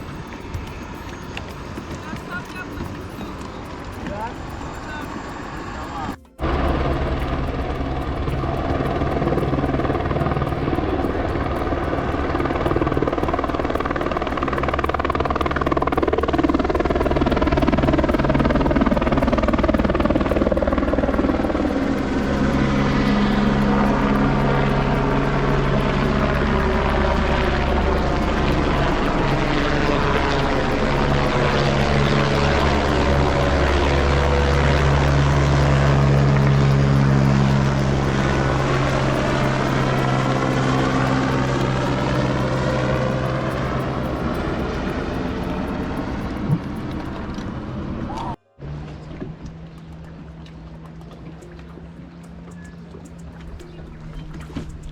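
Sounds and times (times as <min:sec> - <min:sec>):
engine humming: 0:00.0 - 0:54.9.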